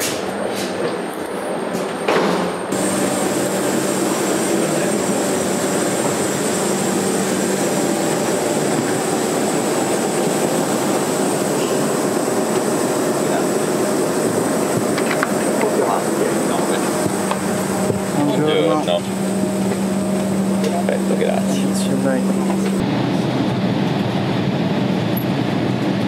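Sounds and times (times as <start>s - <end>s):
jet turbine rushing and whine: 0.0s - 26.0s.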